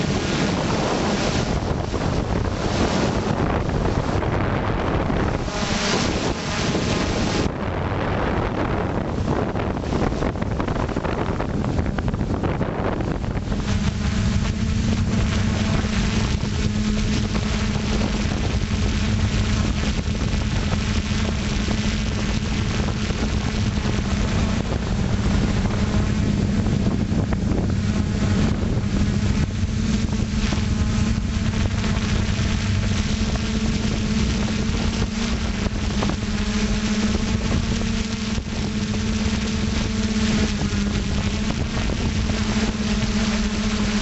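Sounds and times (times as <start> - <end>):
drone propellers humming: 0.0 - 44.0
wind noise on microphone: 0.0 - 44.0.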